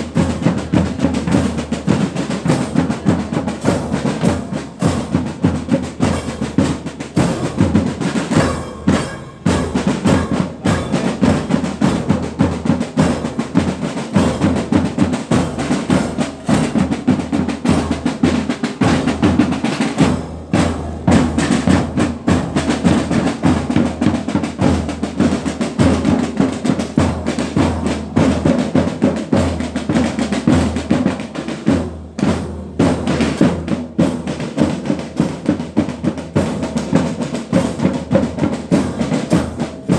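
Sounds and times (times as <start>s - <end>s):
cymbals: 0.0s - 39.9s
snare drums: 0.0s - 39.9s.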